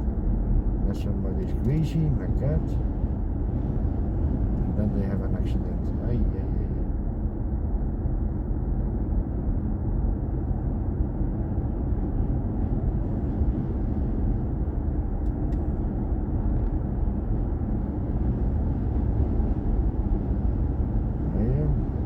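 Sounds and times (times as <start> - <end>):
faint steady hum: 0.0 - 22.0
road and tyre rumble in car: 0.0 - 22.0.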